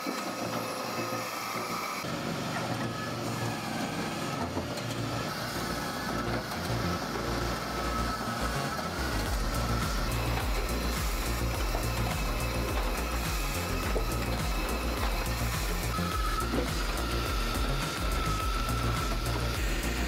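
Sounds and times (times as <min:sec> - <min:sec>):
firewood processor rumbling: 0:00.0 - 0:20.0.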